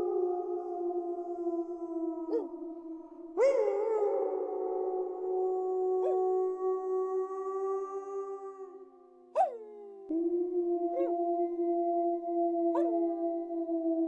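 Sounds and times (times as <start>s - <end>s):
wolves howling: 0.0s - 14.0s.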